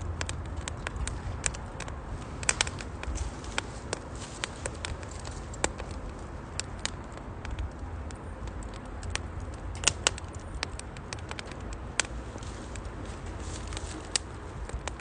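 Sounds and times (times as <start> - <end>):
sharp fire pops: 0.0 - 15.0
wood fire crackling: 0.0 - 15.0.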